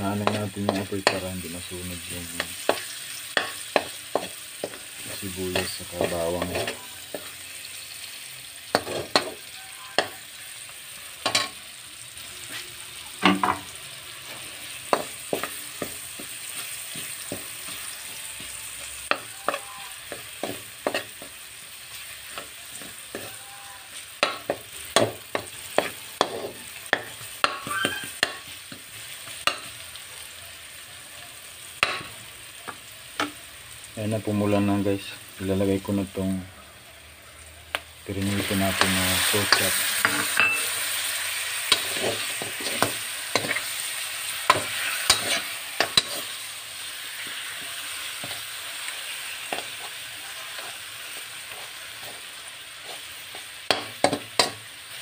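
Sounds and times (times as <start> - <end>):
garlic and onion sizzling in oil: 0.0 - 55.0.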